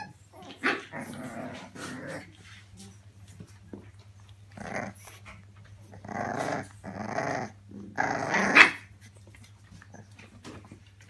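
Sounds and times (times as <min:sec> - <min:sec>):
puppy growling: 0:00.0 - 0:02.5, 0:04.3 - 0:10.7.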